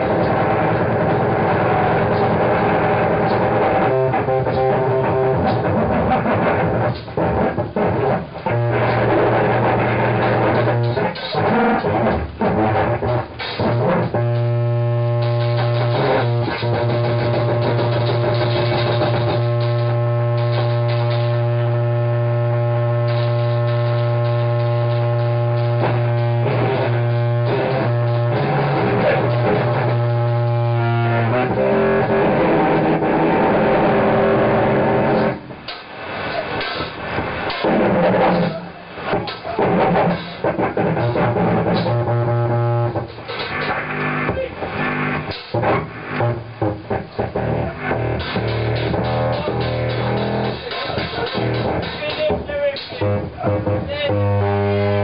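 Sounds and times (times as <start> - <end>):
distorted noise music drone: 0.0 - 55.0.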